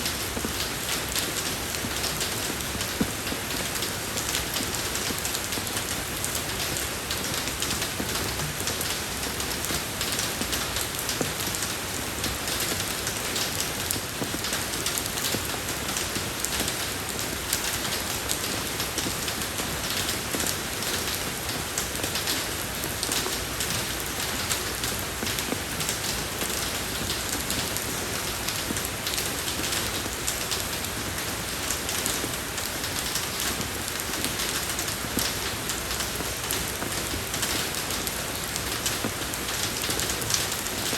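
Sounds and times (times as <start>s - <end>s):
rain on a road: 0.0s - 40.9s.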